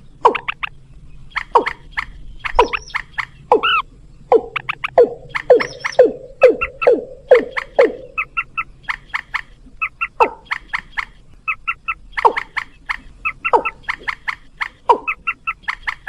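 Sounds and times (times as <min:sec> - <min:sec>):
low gulping bird calls: 0:00.0 - 0:16.0
short high bird calls: 0:01.3 - 0:16.0.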